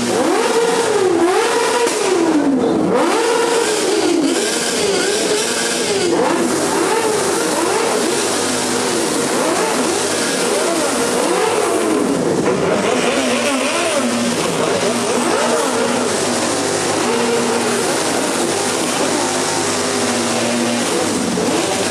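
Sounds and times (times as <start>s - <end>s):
motorcycle engines revving: 0.0s - 21.9s.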